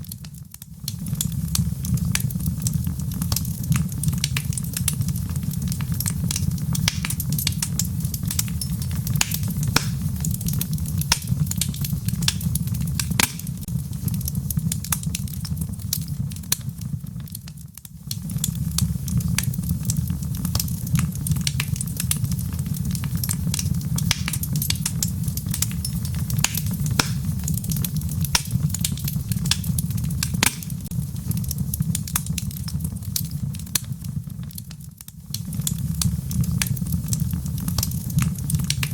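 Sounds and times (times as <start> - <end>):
low fire rumble: 0.0 - 38.9
wood fire crackling and popping: 0.0 - 38.9.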